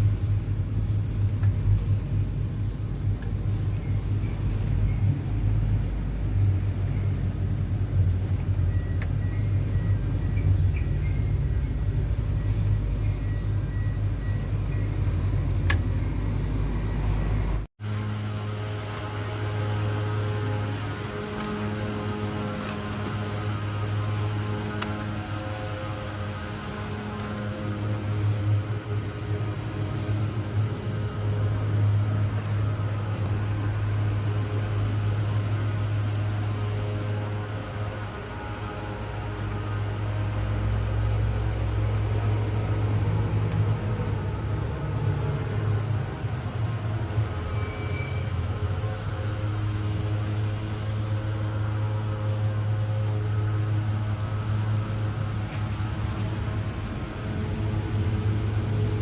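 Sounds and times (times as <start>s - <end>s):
low machine hum: 0.0s - 59.0s
low mechanical drone: 0.0s - 59.0s.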